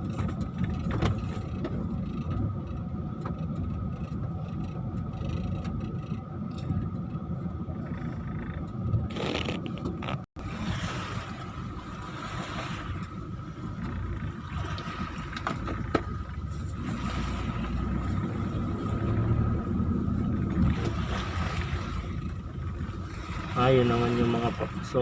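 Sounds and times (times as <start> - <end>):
vehicle engine and tyres rumbling: 0.0 - 25.0.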